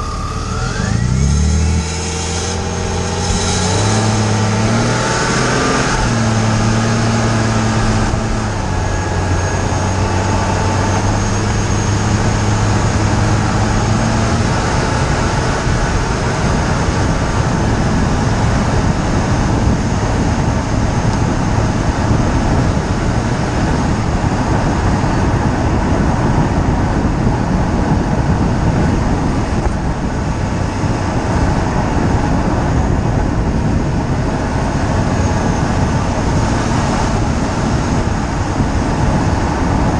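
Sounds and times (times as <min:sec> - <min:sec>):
road tyre and wind rush: 0:00.0 - 0:39.9.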